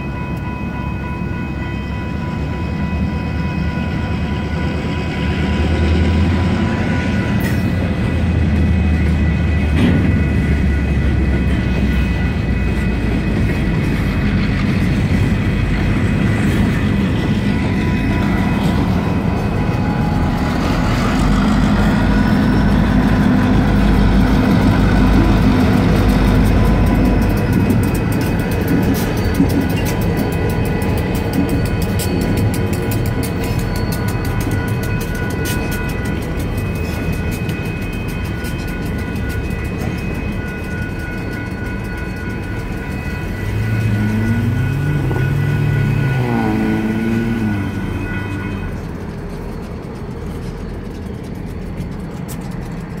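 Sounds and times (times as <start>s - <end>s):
crossing bells ringing: 0.0s - 53.0s
diesel locomotive engines rumbling: 0.0s - 53.0s.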